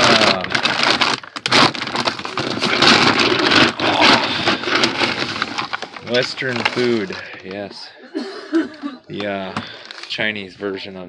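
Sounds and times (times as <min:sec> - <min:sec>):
plastic bag crinkling: 0:00.0 - 0:07.9, 0:09.1 - 0:10.4.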